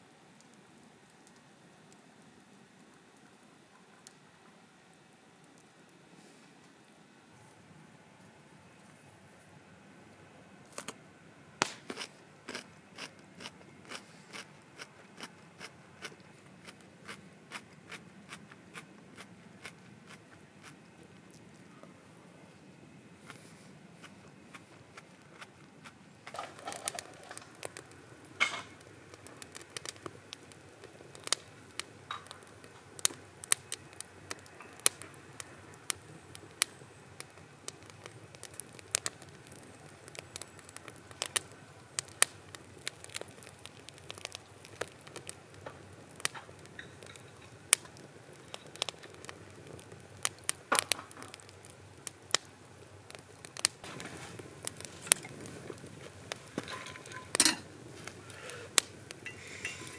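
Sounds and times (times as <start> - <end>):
wood fire crackling: 0.1 - 9.1, 11.6 - 59.9.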